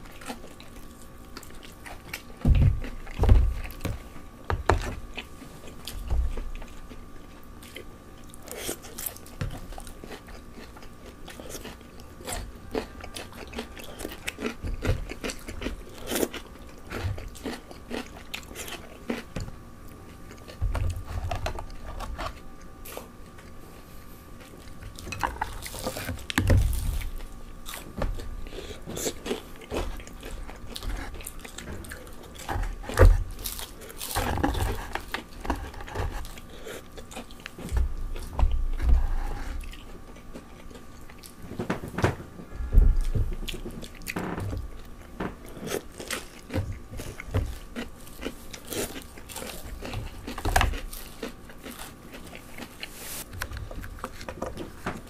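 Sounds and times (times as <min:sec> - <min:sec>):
chewing and crunching fried chicken: 0:00.0 - 0:55.0.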